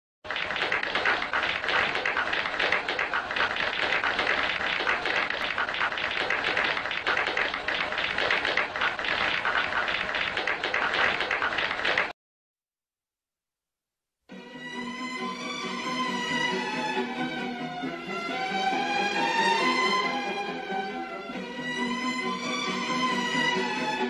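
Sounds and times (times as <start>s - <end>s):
large audience clapping: 0.2s - 12.1s, 15.4s - 24.0s.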